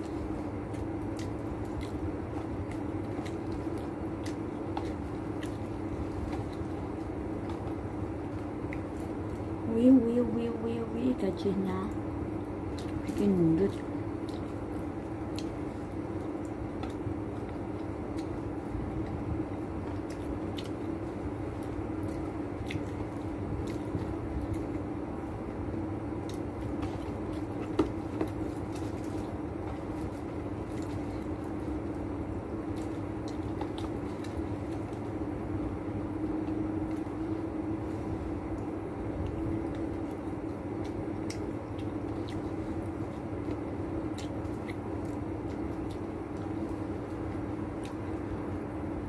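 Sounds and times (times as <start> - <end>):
wet chewing: 0.0 - 9.8, 11.4 - 48.8
steady machine hum: 0.0 - 49.0.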